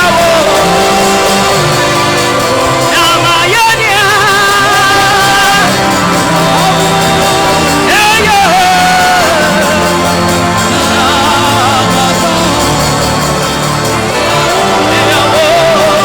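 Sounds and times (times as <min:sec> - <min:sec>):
person singing wavering notes: 0:00.0 - 0:16.0
steady bass line: 0:00.0 - 0:16.0.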